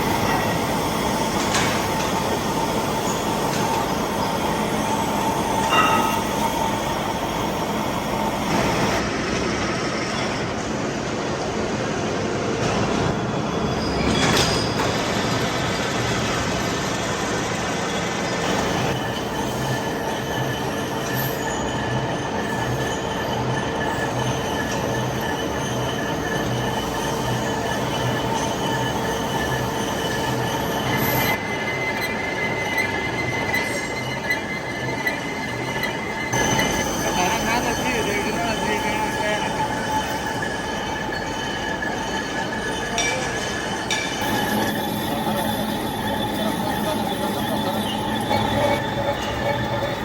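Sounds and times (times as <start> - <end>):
metal-cutting machine running: 0.0 - 11.8, 12.6 - 50.0
higher machine whine: 0.0 - 50.0.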